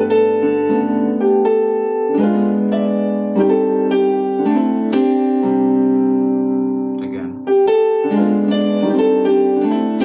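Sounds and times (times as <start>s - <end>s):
keyboard playing sustained chords: 0.0s - 10.0s.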